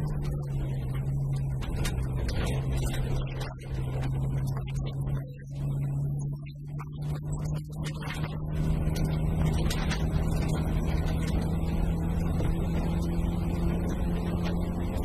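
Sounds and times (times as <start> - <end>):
car engine pulling hard: 0.0 - 15.0
gravel road noise: 0.0 - 15.0.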